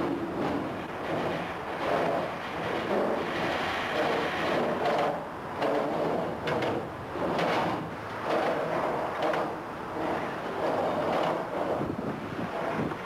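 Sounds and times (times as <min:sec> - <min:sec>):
body scraping against steel beams: 0:00.0 - 0:13.0.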